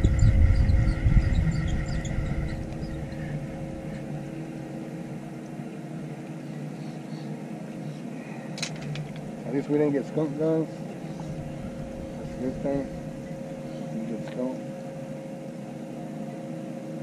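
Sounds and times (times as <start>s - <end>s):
boat engine rumble: 0.0s - 17.0s
steady hum: 0.0s - 17.0s.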